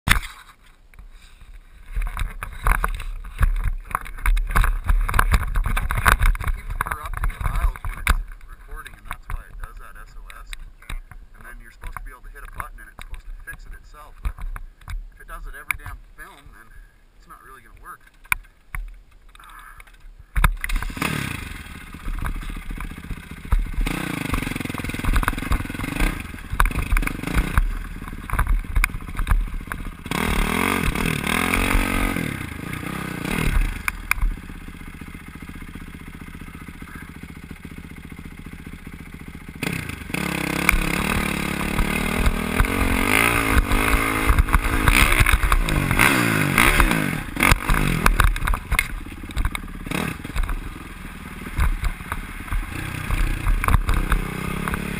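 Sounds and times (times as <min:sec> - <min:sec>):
dirt bike engine revving: 0:01.8 - 0:14.4, 0:19.7 - 0:54.9.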